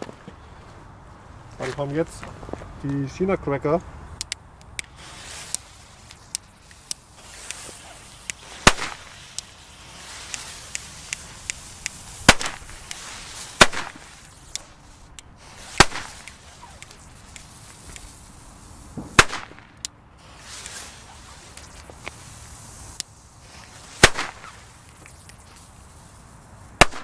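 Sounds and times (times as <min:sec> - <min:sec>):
firecrackers cracking: 0:02.9 - 0:27.0.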